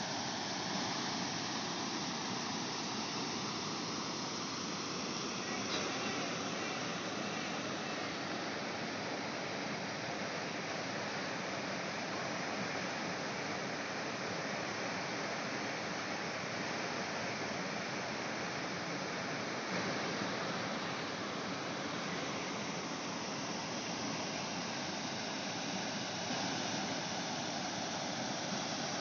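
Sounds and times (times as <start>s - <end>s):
water rushing from dam: 0.0s - 29.0s.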